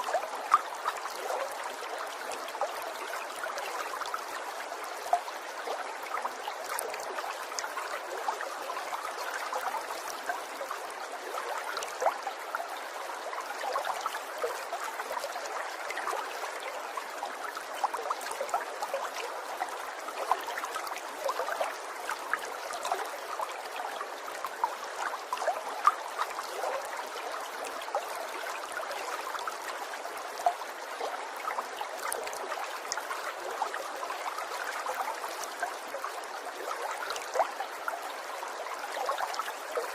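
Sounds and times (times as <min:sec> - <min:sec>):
water drips and splashes: 0:00.0 - 0:39.9
water trickling: 0:00.0 - 0:39.9.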